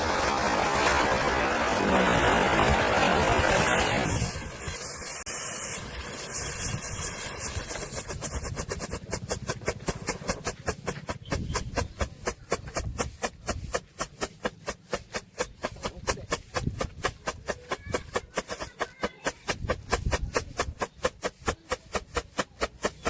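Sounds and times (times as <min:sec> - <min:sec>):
firework fizzing hiss: 0:00.0 - 0:23.0.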